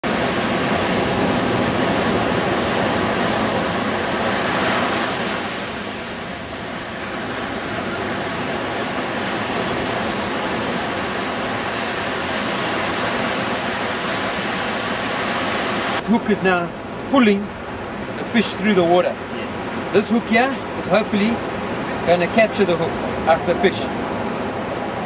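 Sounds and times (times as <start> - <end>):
waves breaking on a sandy beach: 0.0 - 25.0.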